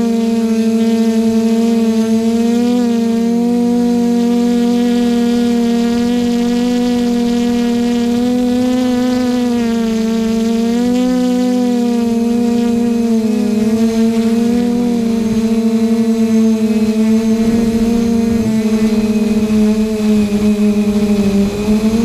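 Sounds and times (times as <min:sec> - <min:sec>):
quadcopter motors humming: 0:00.0 - 0:22.0.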